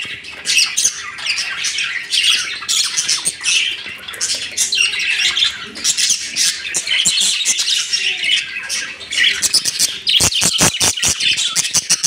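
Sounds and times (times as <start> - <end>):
budgerigars chattering and squawking: 0.0 - 12.0.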